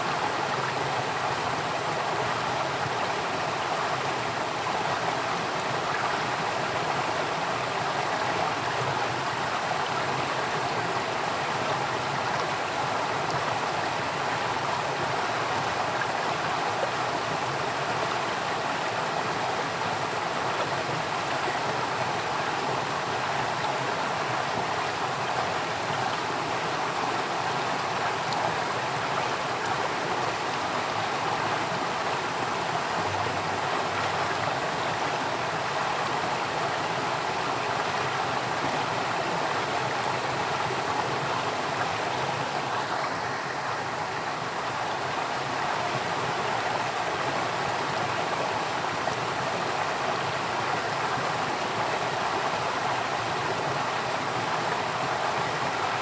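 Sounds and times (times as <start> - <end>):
stream water rushing and babbling: 0.0 - 56.0.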